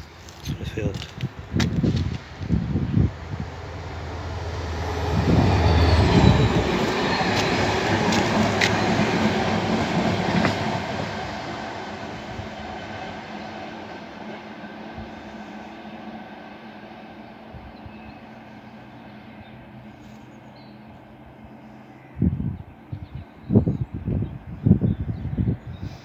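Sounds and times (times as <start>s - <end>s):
train rumbling past: 0.0s - 23.4s.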